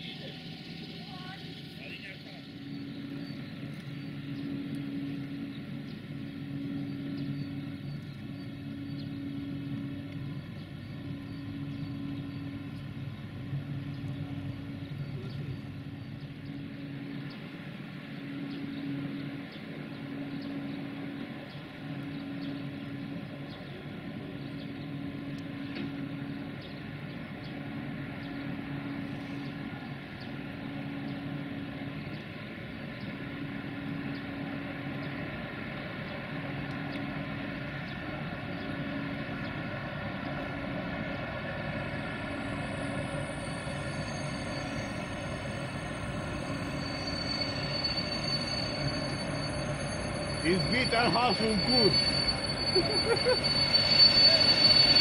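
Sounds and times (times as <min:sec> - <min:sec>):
electric locomotive humming: 0:00.0 - 0:55.0.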